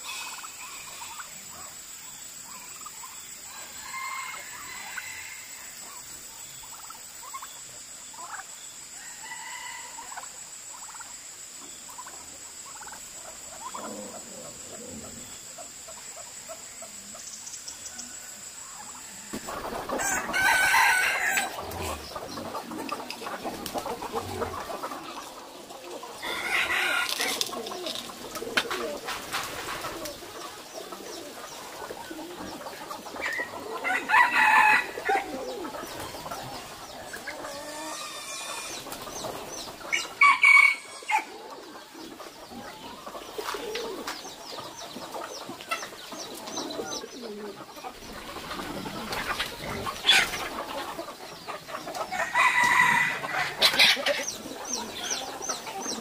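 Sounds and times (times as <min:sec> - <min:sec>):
small birds chirping: 0:00.0 - 0:52.5, 0:53.2 - 0:56.0
chickens clucking: 0:00.0 - 0:56.0.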